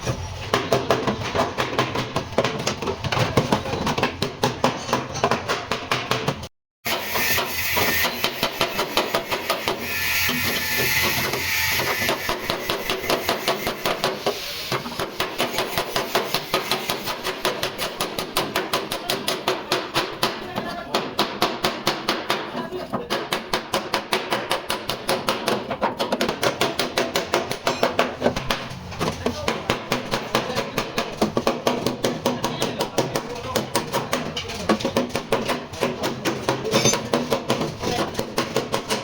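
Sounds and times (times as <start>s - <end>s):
hammer blows on sheet metal: 3.2s - 39.0s.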